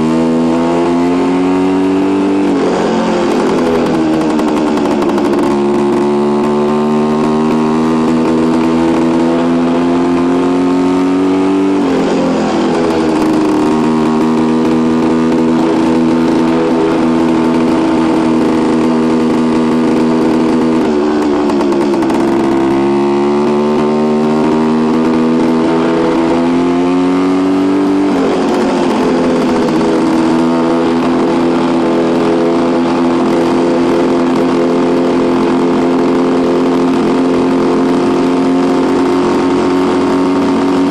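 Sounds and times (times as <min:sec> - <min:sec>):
two-stroke motorcycle engine: 0:00.0 - 0:40.9.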